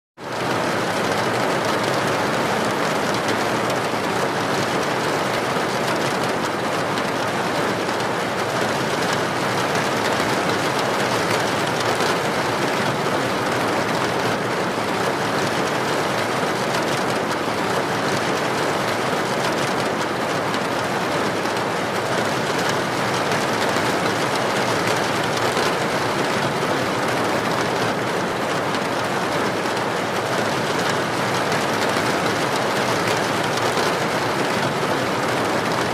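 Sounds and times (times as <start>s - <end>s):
steady rain: 0.2s - 35.9s.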